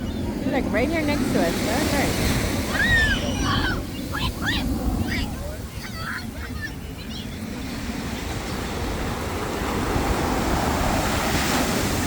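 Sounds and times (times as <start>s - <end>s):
ocean waves washing up beach: 0.0s - 12.0s.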